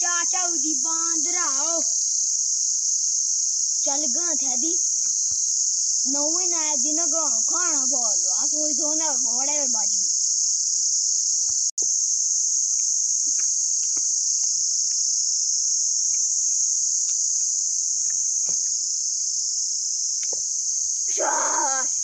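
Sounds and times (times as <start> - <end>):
insects buzzing chorus: 0.0 - 22.0.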